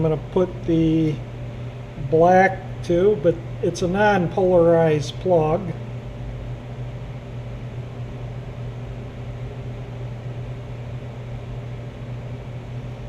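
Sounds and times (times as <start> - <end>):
motor or fan humming with hiss: 0.0 - 13.0.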